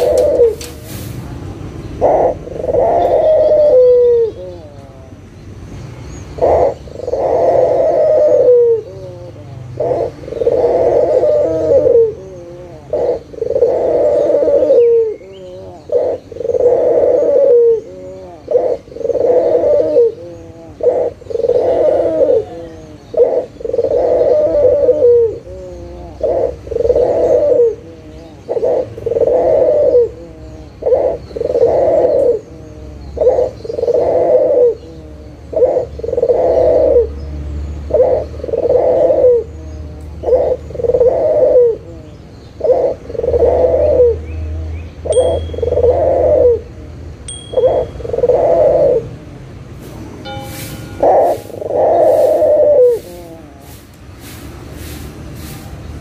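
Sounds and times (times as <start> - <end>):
dove cooing: 0.0 - 0.8, 2.0 - 5.2, 6.4 - 49.3, 50.2 - 53.8.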